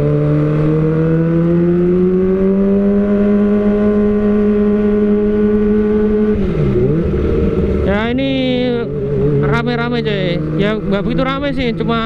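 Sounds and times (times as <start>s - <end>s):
motorcycle exhaust revving: 0.0s - 12.0s.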